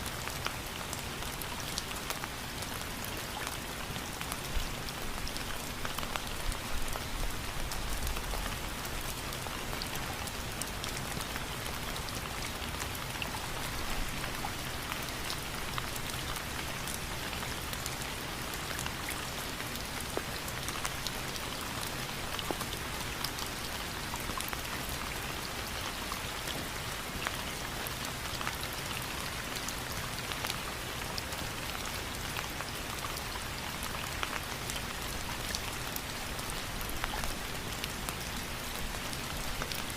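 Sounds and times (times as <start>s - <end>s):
raindrops ticking on a surface: 0.0s - 39.9s
steady rainfall: 0.0s - 39.9s.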